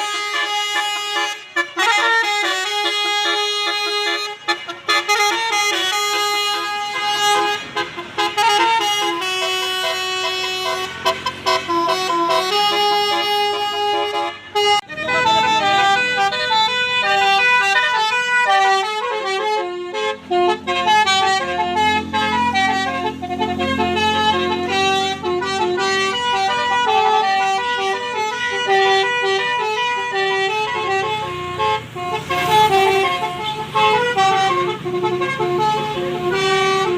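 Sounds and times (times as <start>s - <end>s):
multi-tone bus horns playing tunes: 0.0s - 36.9s.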